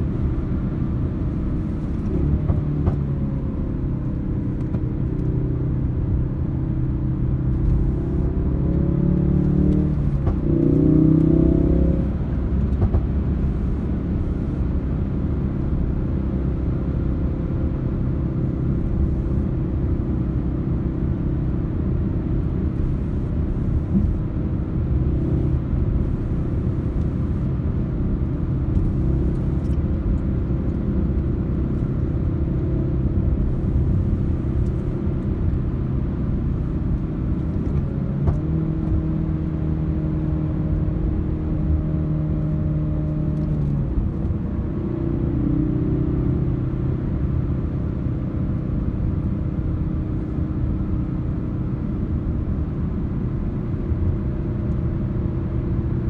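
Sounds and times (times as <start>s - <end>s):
car engine rumble in cabin: 0.0s - 56.0s.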